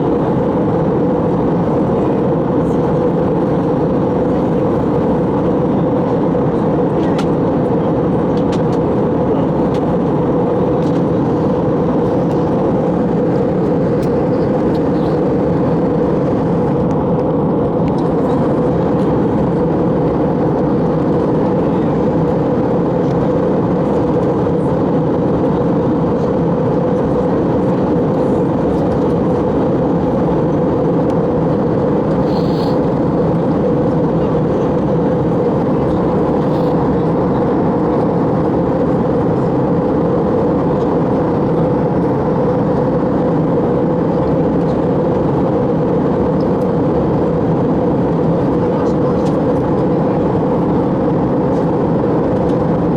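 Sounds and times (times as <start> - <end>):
airplane cabin engine rush: 0.0 - 52.9.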